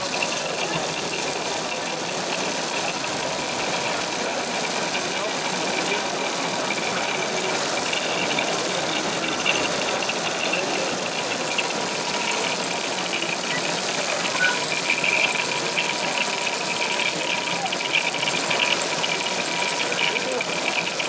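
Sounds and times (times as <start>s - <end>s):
crowd murmur: 0.0s - 21.0s
model truck engines running: 0.0s - 21.0s
rattly high whirring: 0.0s - 21.0s.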